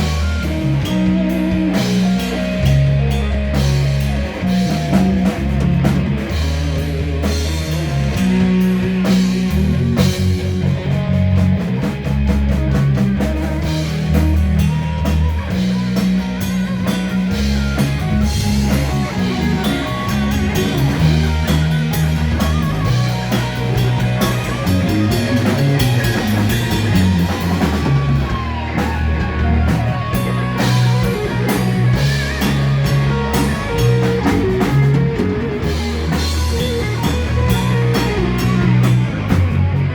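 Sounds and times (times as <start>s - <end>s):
bass notes: 0.0s - 39.9s
drum kit: 0.0s - 39.9s
electric guitar: 0.0s - 39.9s.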